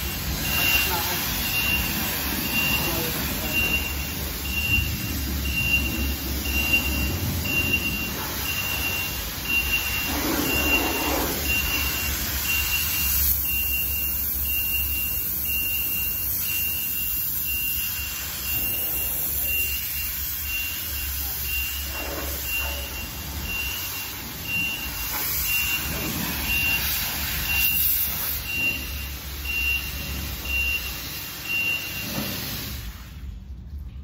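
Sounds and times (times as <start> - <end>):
low pump hum: 0.0 - 27.6
high beeps: 0.0 - 32.2
pressure wand spraying water: 0.0 - 33.1.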